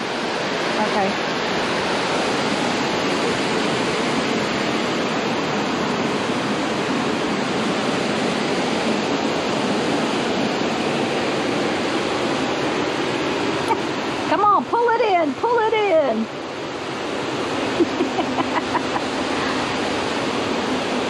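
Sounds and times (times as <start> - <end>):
water rushing and churning: 0.0 - 21.0.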